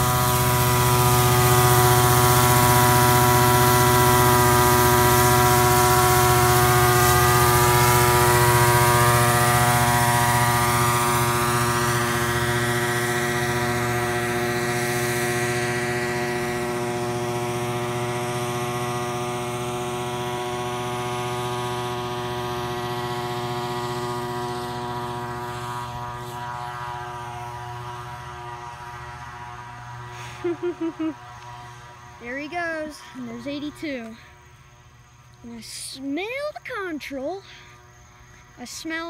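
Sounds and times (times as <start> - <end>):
spray truck fogger droning: 0.0 - 39.0.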